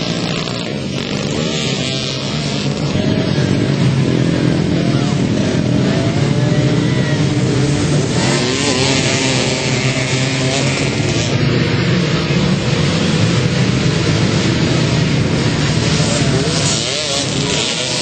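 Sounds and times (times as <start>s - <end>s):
quad bike engines revving: 0.0s - 18.0s.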